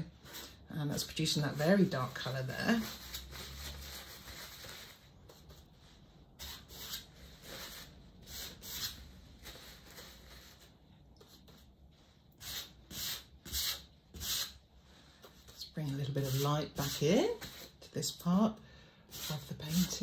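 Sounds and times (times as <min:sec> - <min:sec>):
paintbrush swishing on canvas: 0:01.5 - 0:17.8.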